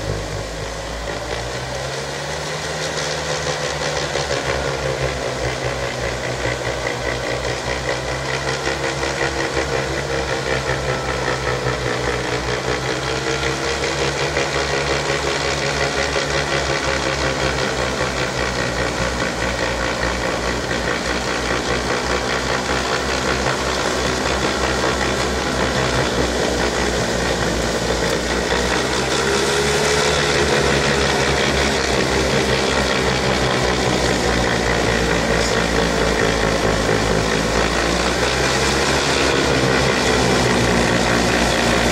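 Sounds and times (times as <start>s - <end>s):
snow blower clearing snow: 0.0s - 41.9s
tractor engine running under load: 0.0s - 41.9s.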